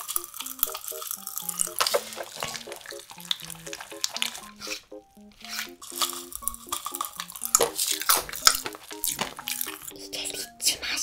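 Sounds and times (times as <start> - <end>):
wet chewing of jelly: 0.0 - 10.0
light plucked background music: 0.0 - 11.0.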